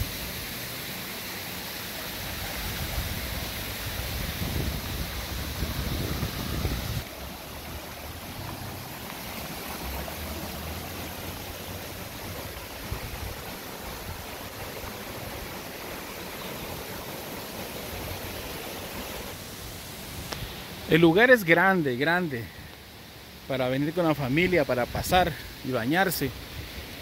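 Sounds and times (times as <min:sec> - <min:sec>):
stream rushing over stones: 0:00.0 - 0:27.0.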